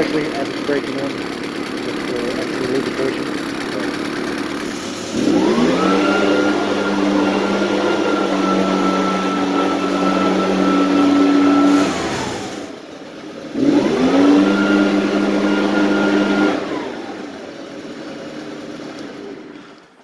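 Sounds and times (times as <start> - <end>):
leaf blower engine revving: 0.0 - 20.0.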